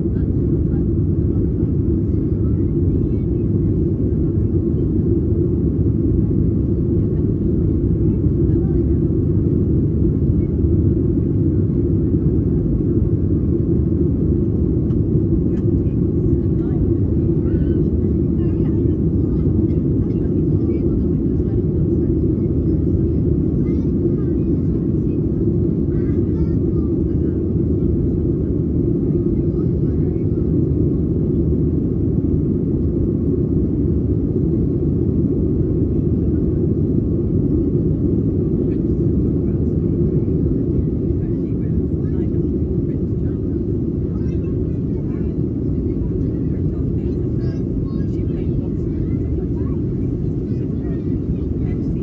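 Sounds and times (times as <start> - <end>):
jet engine cabin rumble: 0.0 - 52.0.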